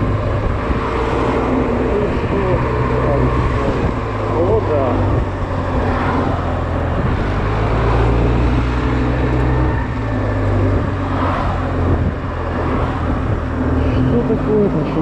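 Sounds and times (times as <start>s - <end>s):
motorbike engine humming: 0.0s - 15.0s
road noise: 0.0s - 15.0s
wind noise: 0.0s - 15.0s.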